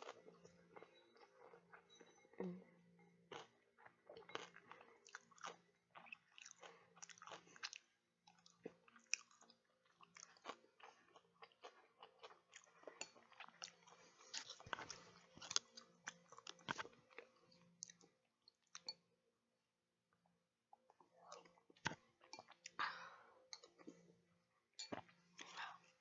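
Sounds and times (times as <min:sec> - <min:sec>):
person chewing food: 0:00.0 - 0:02.4, 0:03.2 - 0:19.0, 0:20.8 - 0:22.8, 0:24.8 - 0:26.0.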